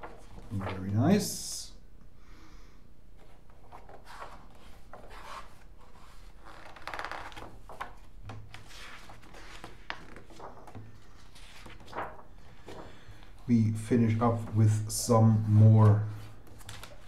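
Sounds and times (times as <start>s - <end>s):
magazine pages rustling: 0.0s - 1.2s, 3.2s - 14.6s, 15.3s - 17.0s.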